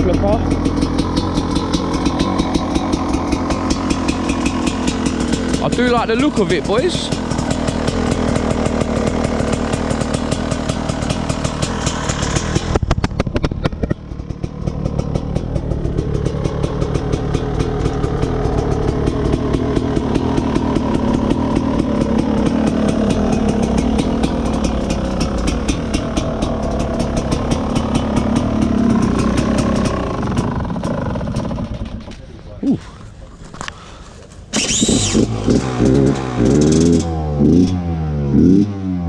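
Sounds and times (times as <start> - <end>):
two-stroke engine idling: 0.0 - 37.4.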